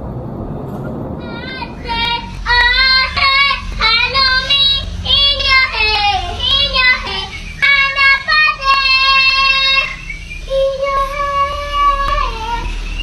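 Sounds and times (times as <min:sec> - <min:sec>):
low steady rumble: 0:00.0 - 0:13.0
high-pitched voice singing: 0:01.3 - 0:13.0.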